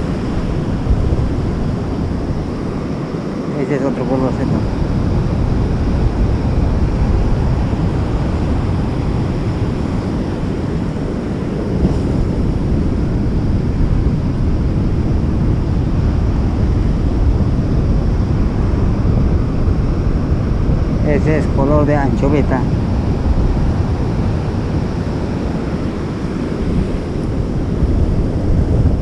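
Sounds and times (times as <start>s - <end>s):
sea surf: 0.0s - 29.0s
wind buffeting microphone: 0.0s - 29.0s.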